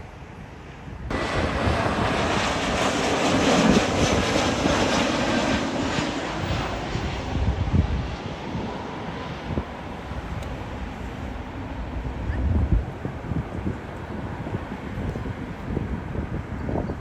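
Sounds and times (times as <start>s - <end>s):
jet airliner engines: 0.0s - 17.0s.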